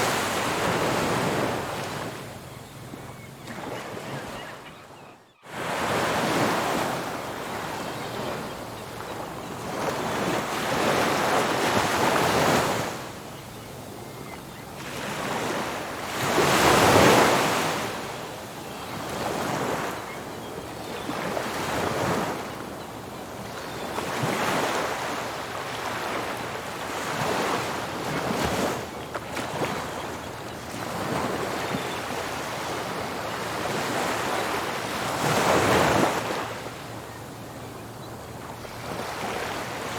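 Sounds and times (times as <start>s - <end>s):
waves breaking on a beach: 0.0s - 4.5s, 5.5s - 39.9s.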